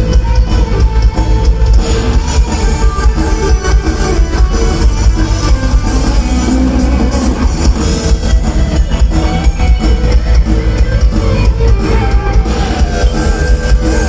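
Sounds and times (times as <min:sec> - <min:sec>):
guitar: 0:00.0 - 0:14.0
live band playing: 0:00.0 - 0:14.0
steady drum beat: 0:00.0 - 0:14.0.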